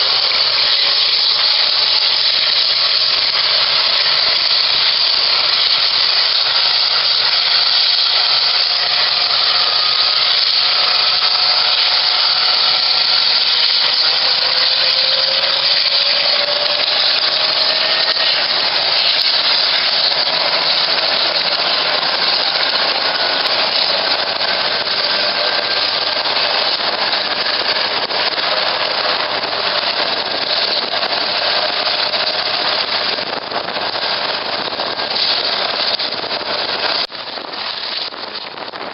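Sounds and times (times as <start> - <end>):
faint turbine whine: 0.0 - 38.9
helicopter turbine rush: 0.0 - 38.9.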